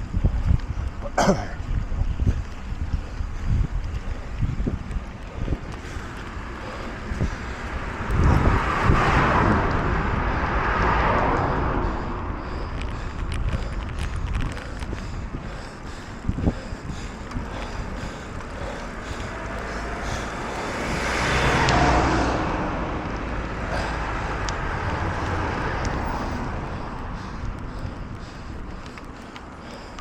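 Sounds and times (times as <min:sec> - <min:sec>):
wind noise on microphone: 0:00.0 - 0:30.0
vehicle passing: 0:01.6 - 0:30.0.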